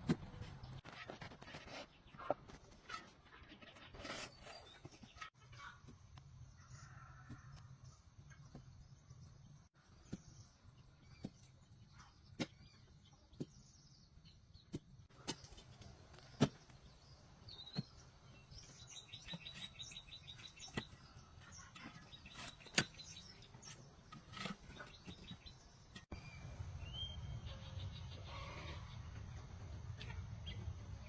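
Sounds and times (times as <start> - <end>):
small birds chirping: 1.6 - 31.0.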